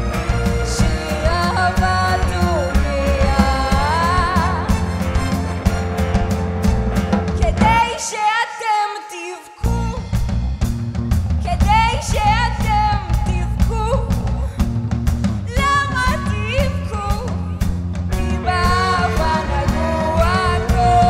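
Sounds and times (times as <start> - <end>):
woman singing: 0.0 - 5.4, 7.4 - 10.2, 11.4 - 14.6, 15.5 - 21.0
live rock-pop band playing: 0.0 - 8.4, 9.5 - 21.0.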